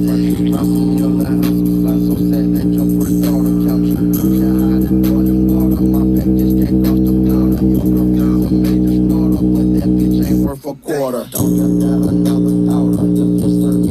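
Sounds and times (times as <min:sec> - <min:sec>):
bass-heavy music through speaker: 0:00.0 - 0:13.9.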